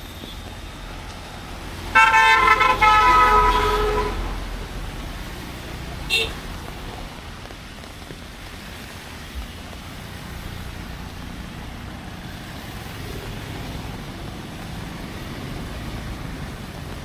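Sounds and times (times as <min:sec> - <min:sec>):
rain hiss: 0:00.0 - 0:17.0
traffic rumble: 0:00.0 - 0:17.0.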